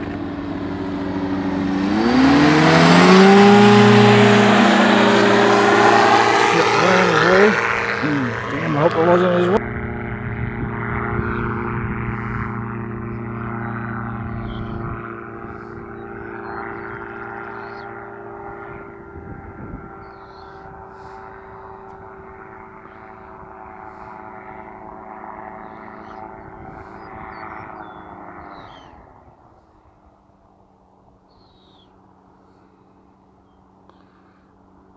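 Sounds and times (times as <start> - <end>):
propeller engine droning overhead: 0.0 - 34.9.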